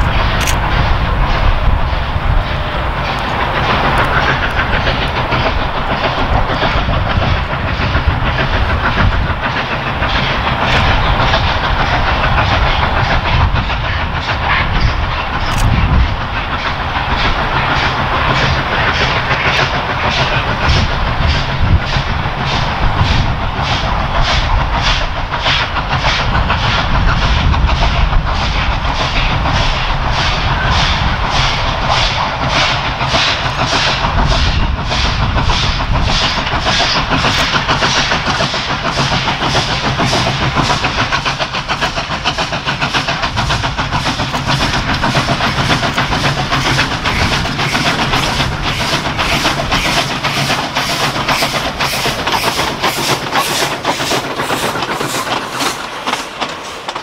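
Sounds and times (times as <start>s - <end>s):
steam locomotive chuffing: 0.0s - 57.0s
train rumbling on rails: 0.0s - 57.0s.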